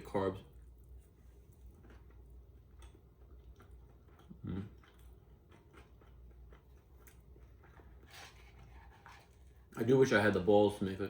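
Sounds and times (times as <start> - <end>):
person chewing food: 0.5 - 9.7.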